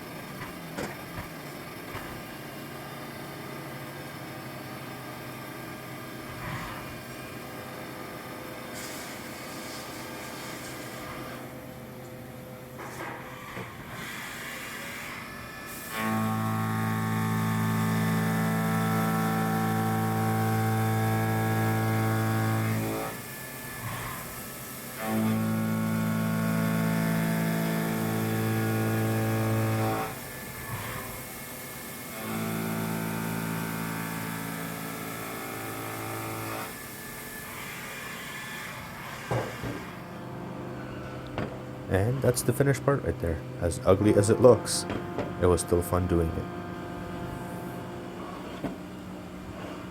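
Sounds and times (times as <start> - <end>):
mixed machine noise: 0.0 - 49.9.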